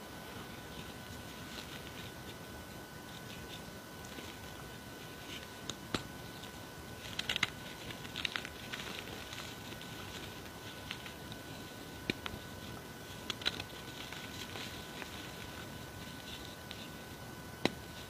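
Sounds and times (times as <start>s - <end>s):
chalk crumbling by hand: 0.2s - 18.0s.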